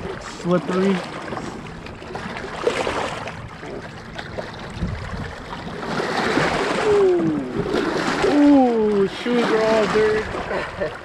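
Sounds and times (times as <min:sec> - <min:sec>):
water splashing against rocks: 0:00.0 - 0:10.6.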